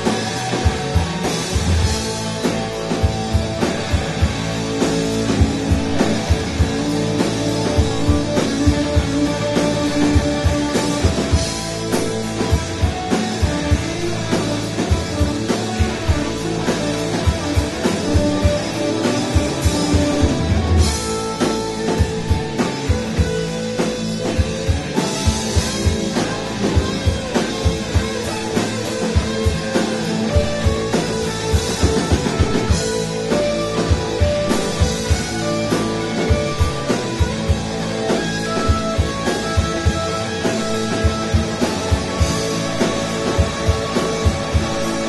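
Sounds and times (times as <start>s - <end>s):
drum kit beat: 0.0s - 45.0s
electric guitars ringing: 0.0s - 45.0s.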